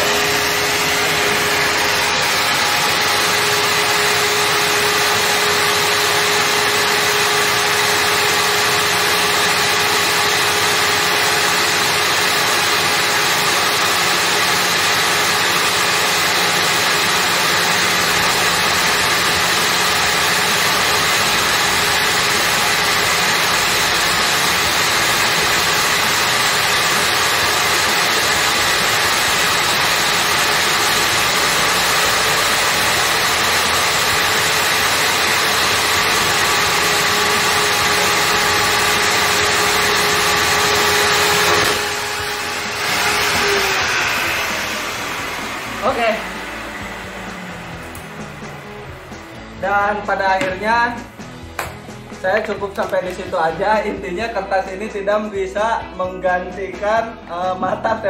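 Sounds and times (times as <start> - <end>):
table saw motor running: 0.0 - 54.0.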